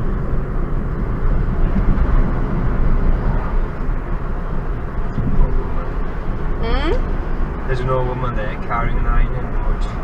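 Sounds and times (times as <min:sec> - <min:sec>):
car cabin road and engine noise: 0:00.0 - 0:10.0.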